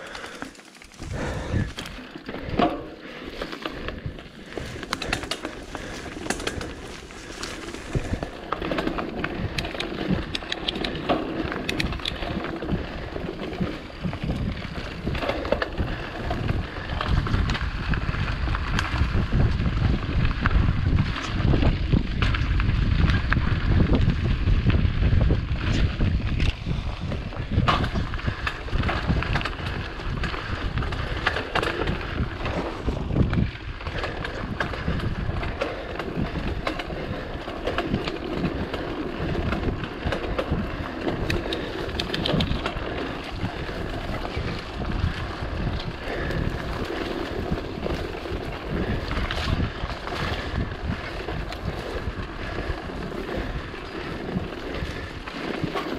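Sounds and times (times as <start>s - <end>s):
bike clicks and rattles: 0.0s - 55.9s
bike tyres rolling over leaves: 0.0s - 55.9s
wind rumble on microphone: 0.0s - 55.9s.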